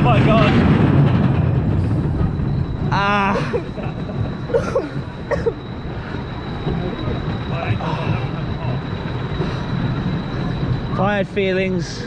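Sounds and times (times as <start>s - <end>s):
roller coaster wheels rumbling: 0.0s - 12.0s.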